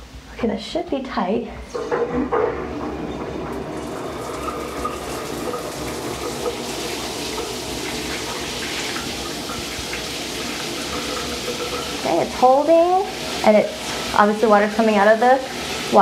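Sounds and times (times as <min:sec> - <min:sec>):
shower water pouring: 0:01.8 - 0:16.0.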